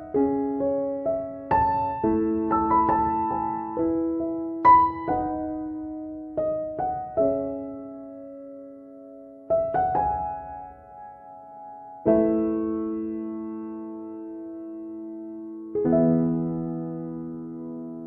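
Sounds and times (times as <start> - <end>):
gentle solo piano music: 0.0 - 18.0.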